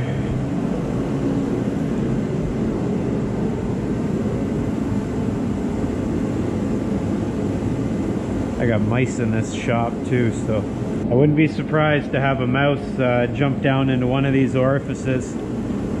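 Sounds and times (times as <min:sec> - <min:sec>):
fan machine droning: 0:00.0 - 0:16.0.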